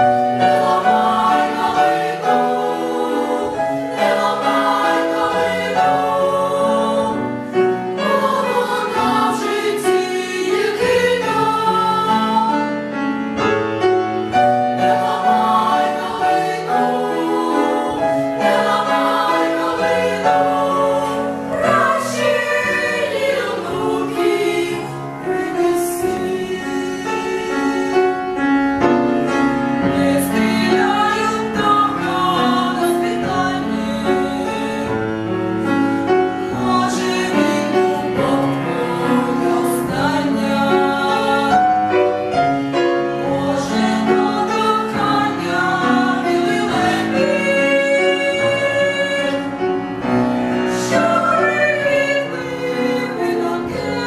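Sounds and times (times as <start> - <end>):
children's choir singing: 0.0 - 13.6, 14.2 - 28.4, 29.0 - 54.0.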